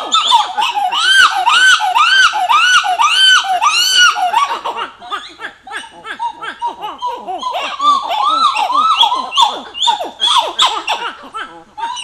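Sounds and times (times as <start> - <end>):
monkey song: 0.0 - 12.0.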